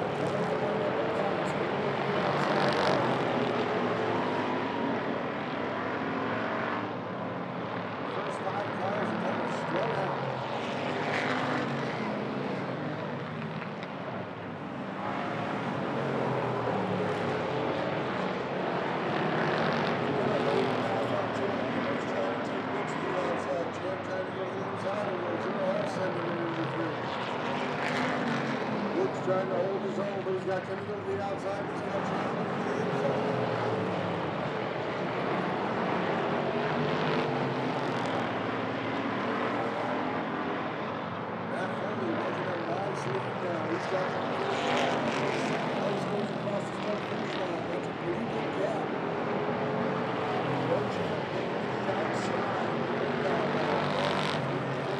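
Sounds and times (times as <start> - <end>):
race car engines accelerating: 0.0 - 54.9.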